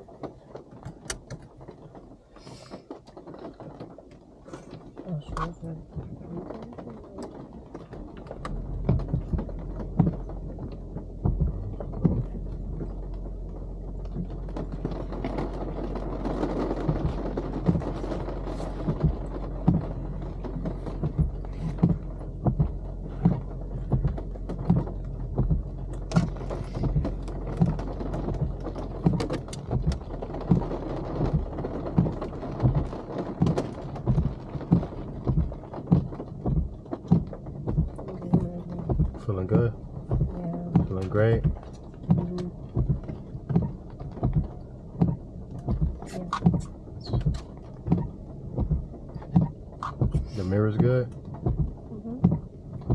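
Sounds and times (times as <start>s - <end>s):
car engine idling: 0.0s - 52.9s
windshield wipers sweeping: 0.0s - 52.9s
wiper thump: 4.5s - 52.9s.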